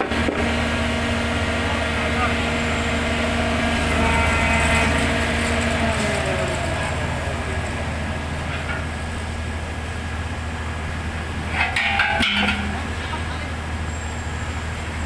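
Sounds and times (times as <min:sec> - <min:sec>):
heavy diesel engine humming: 0:00.0 - 0:15.0.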